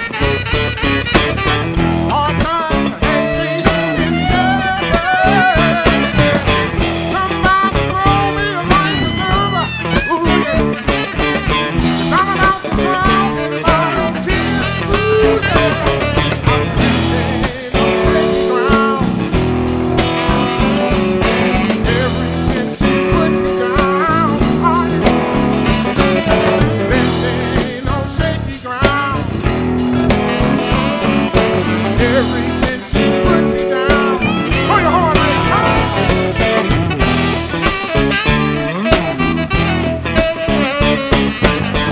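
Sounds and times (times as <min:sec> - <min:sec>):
blues band playing: 0:00.0 - 0:41.9
lead guitar with bent notes: 0:00.0 - 0:41.9.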